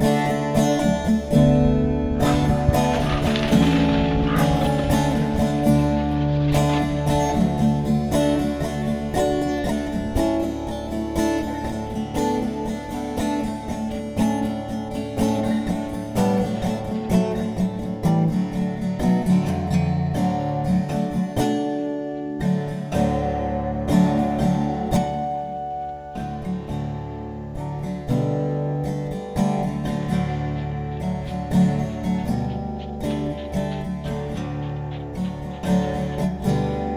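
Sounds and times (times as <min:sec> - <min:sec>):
guitar plucked and strummed: 0:00.0 - 0:36.9.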